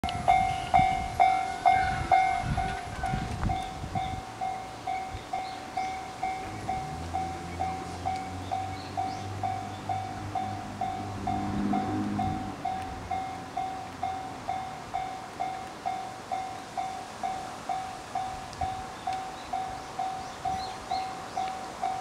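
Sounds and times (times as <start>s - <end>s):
diesel railcar engine hum: 0.0s - 22.0s.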